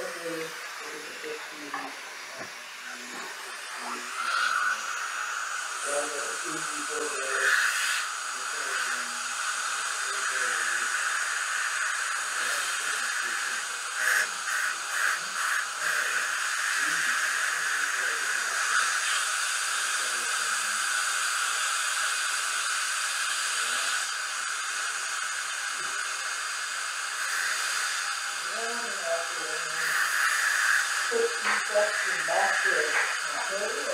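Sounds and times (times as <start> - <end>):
dental drill hissing: 0.0 - 33.9
dental suction: 0.0 - 33.9.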